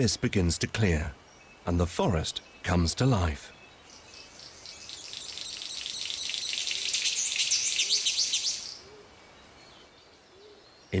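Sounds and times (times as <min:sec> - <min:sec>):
birds chirping fast: 0:00.0 - 0:11.0.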